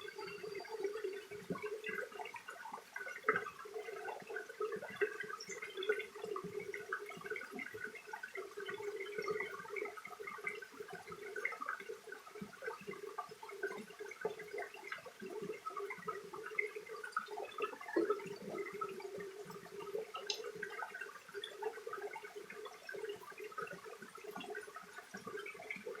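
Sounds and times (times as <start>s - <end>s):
stream bubbling and gurgling: 0.0s - 26.0s.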